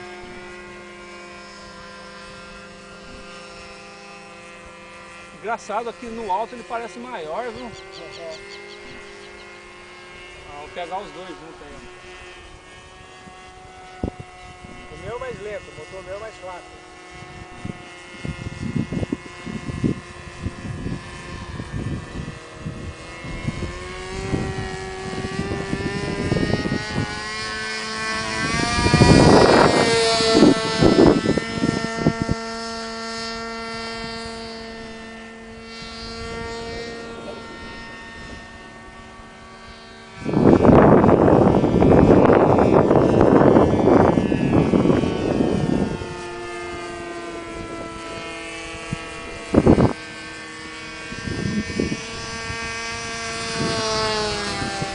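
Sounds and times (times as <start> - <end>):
model airplane engines droning: 0.0 - 54.9
wind gusts on microphone: 1.8 - 54.9.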